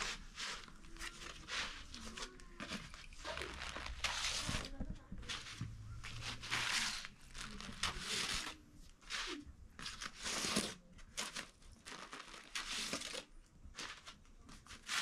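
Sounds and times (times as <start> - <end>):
flatbread sheets crackling and rustling: 0.0 - 15.0.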